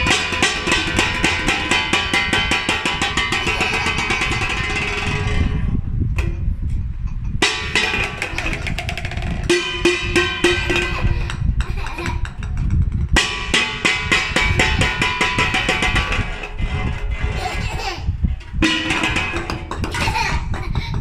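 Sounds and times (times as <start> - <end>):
drum kit and percussion music: 0.0 - 5.5, 7.4 - 20.4.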